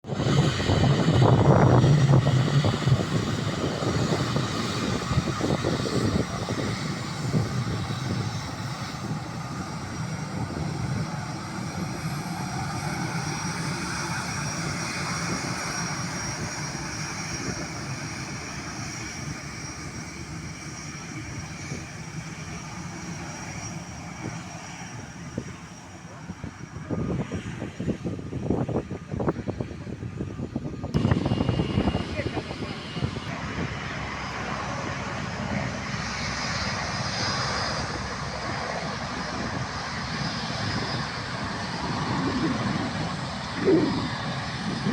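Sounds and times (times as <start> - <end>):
airliner engines passing: 0.0 - 44.9
high engine whine: 0.0 - 44.9.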